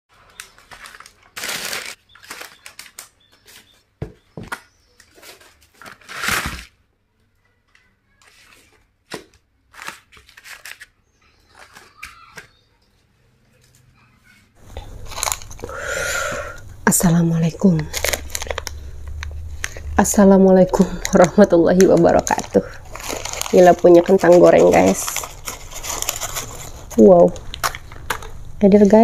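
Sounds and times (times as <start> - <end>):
paper wrappers rustling: 0.1 - 6.8, 7.6 - 29.0.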